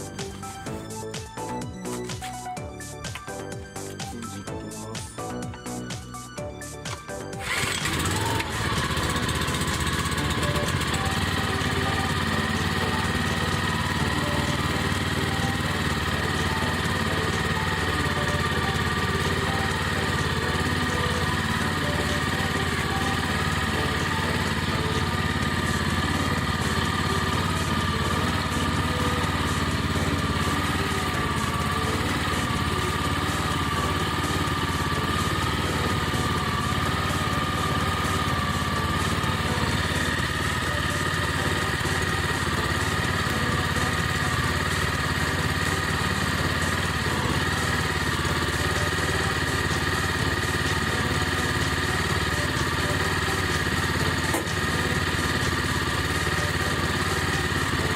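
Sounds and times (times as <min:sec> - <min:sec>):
small engine running: 0:00.0 - 0:57.9.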